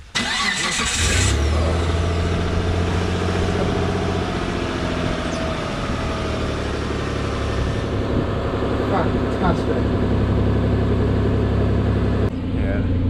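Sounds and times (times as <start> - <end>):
engine idling: 0.1 - 13.0.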